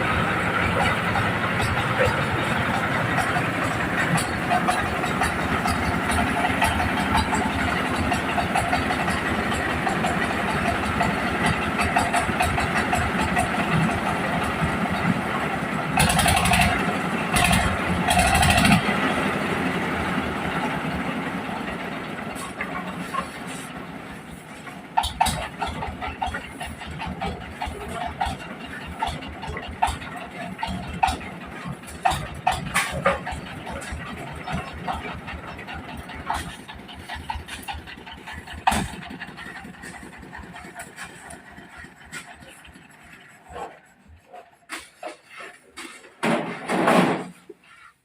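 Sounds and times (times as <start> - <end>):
engine-driven corn sheller running: 0.0 - 47.9.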